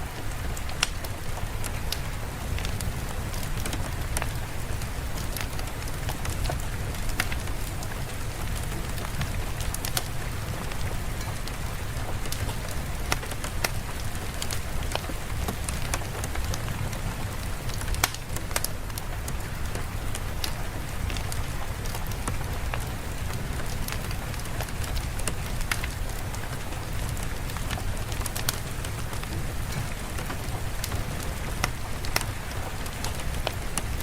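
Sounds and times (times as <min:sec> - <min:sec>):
sharp drips and ticks: 0:00.0 - 0:34.0
steady rain on a surface: 0:00.0 - 0:34.0.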